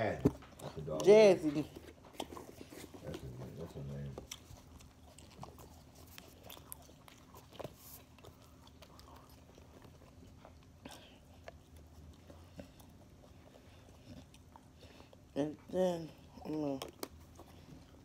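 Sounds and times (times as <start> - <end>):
mouth chewing: 0.2 - 18.0.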